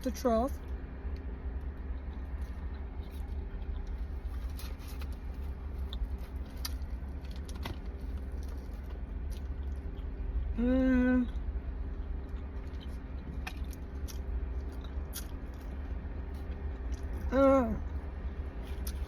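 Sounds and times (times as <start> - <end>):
person chewing with crunches: 1.6 - 10.6, 11.3 - 19.0.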